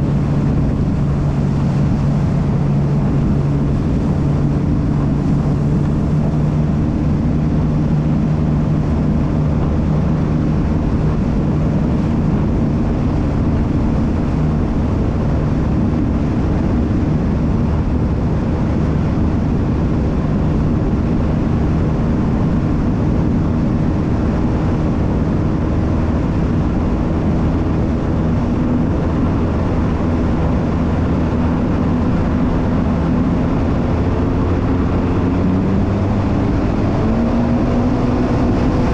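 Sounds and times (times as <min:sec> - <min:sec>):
jet ski engine running: 0:00.0 - 0:38.9
rush of water and air: 0:00.0 - 0:38.9.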